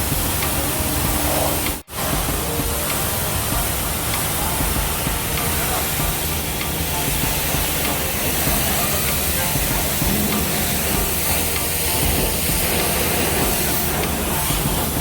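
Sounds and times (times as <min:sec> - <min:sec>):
car wash spraying: 0:00.0 - 0:15.0.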